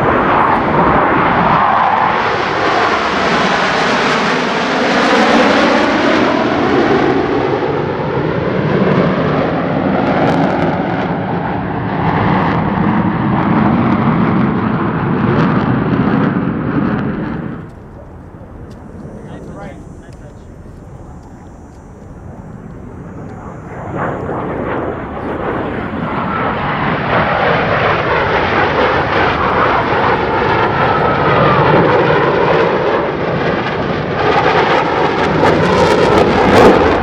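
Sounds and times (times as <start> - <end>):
jet engines roaring past: 0.0 - 37.0.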